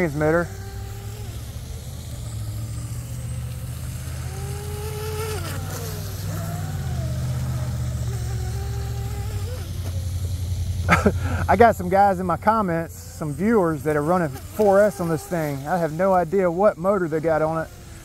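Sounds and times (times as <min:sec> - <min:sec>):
model boat motor whine: 0:00.0 - 0:18.0
steady low hum: 0:00.0 - 0:18.0.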